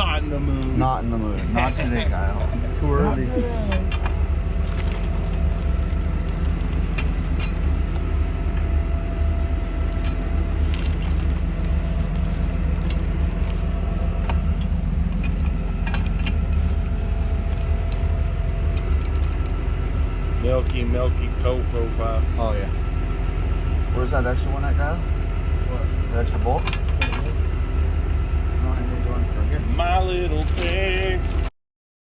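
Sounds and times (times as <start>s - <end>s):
heavy machine engine humming: 0.0s - 31.5s.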